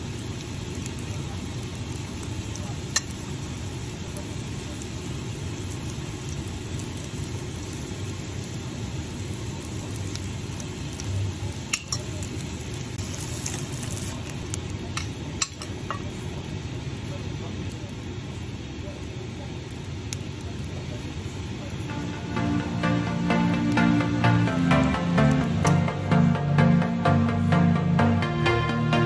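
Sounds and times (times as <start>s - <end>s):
food sizzling in frying pan: 0.0s - 25.7s.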